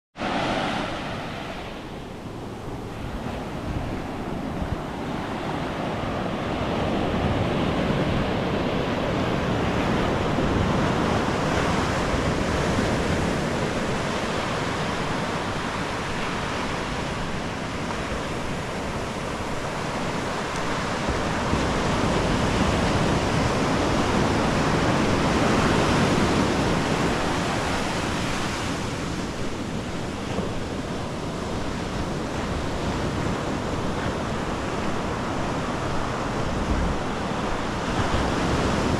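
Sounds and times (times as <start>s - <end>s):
ocean waves breaking on sand: 0.2s - 38.9s.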